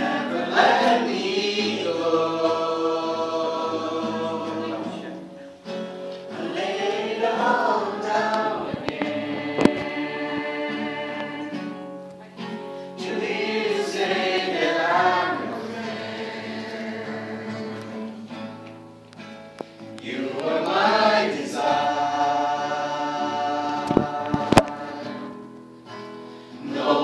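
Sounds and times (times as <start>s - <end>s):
group singing a religious song: 0.0s - 18.6s, 19.9s - 27.0s.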